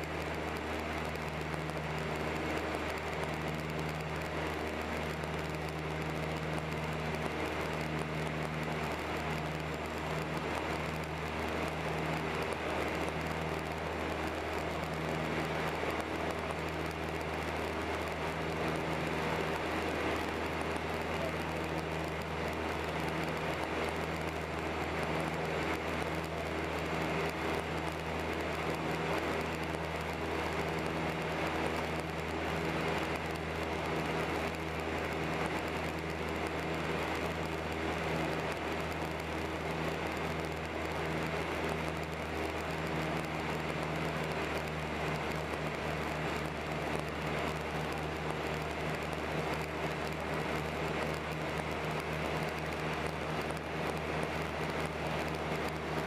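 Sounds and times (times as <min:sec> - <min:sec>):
airplane engines droning in cabin: 0:00.0 - 0:56.0.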